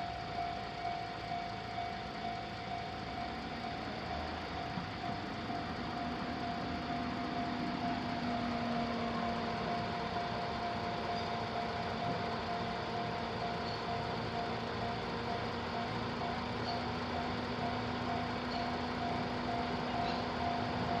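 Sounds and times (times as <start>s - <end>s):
level crossing warning bell: 0.0s - 21.0s.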